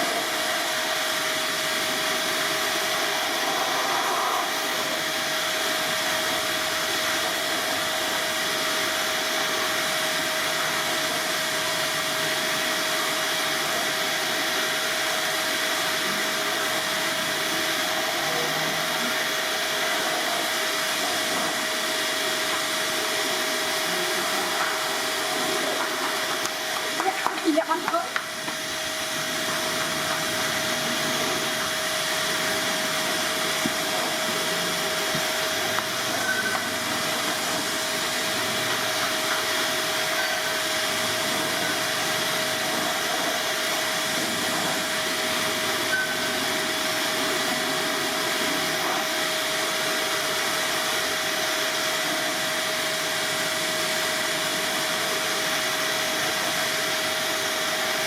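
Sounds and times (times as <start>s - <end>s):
electric blower motor running: 0.0s - 58.0s.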